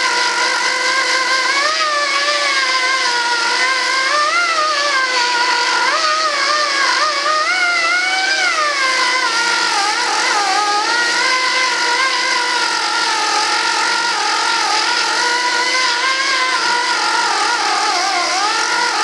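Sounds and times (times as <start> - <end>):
small electric power tool running: 0.0 - 19.0.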